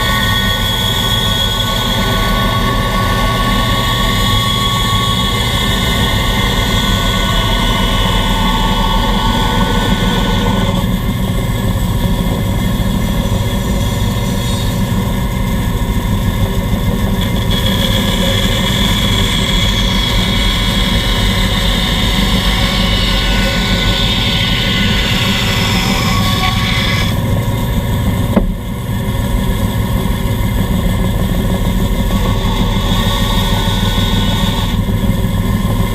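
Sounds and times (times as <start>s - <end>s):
bandsaw cutting wood: 0.0s - 29.1s, 30.4s - 35.9s.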